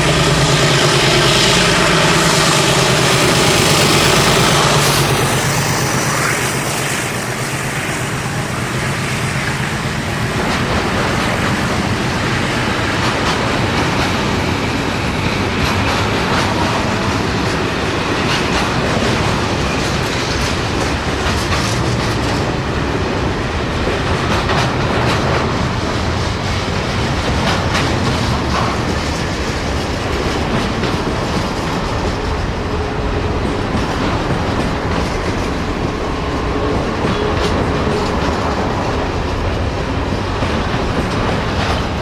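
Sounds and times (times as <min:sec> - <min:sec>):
train wagons rumbling: 0:00.0 - 0:42.0
wheels clacking over rail joints: 0:00.0 - 0:42.0.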